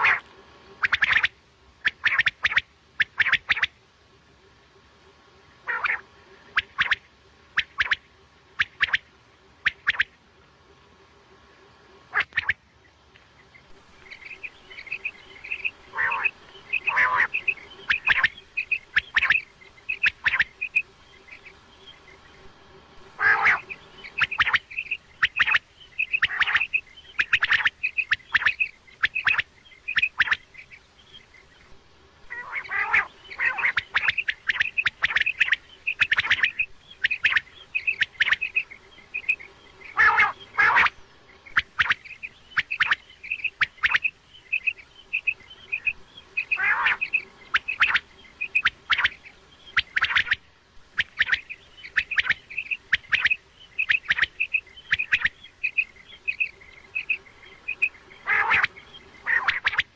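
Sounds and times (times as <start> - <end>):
quail calling: 0.0 - 3.8, 5.6 - 10.2, 11.9 - 12.6, 13.4 - 59.9.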